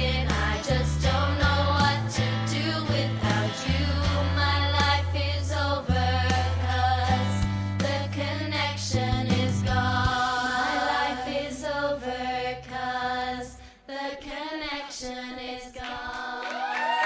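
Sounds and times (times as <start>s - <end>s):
girls singing: 0.0s - 17.0s.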